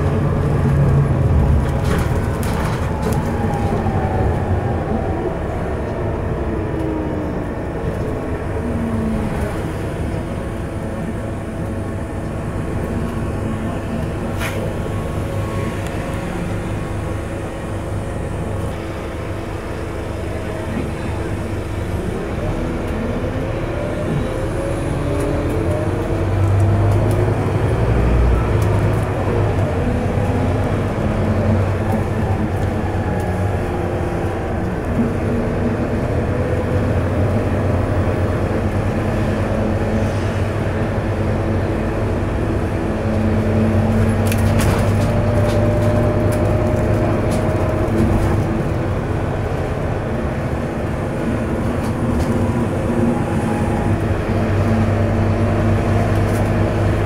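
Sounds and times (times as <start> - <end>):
bus diesel engine under load: 0.0 - 57.0.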